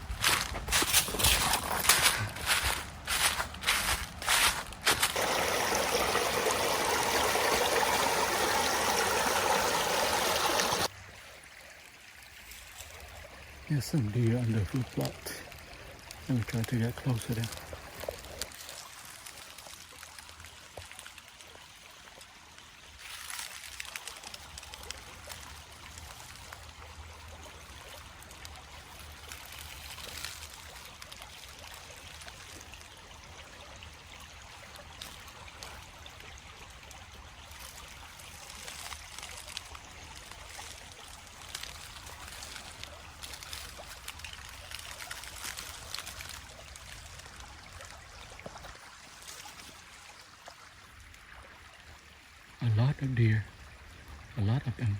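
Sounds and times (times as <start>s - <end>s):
creek trickling: 0.0s - 54.9s.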